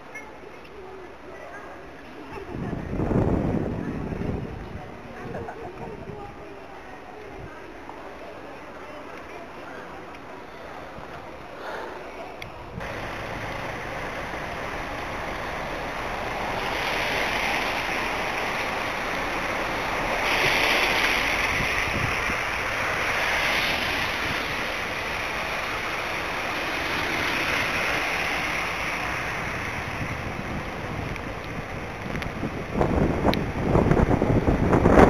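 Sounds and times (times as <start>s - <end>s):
rushing hiss of wet street: 0.4s - 35.0s.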